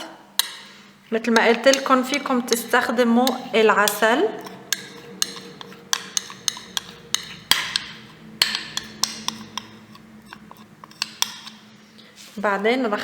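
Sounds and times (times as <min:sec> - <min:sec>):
spoon clinking against bowl: 0:00.4 - 0:11.7.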